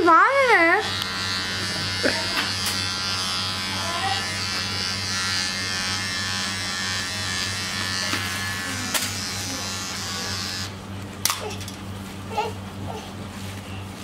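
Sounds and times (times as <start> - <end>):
electric hair clipper buzzing: 0.1 - 11.5.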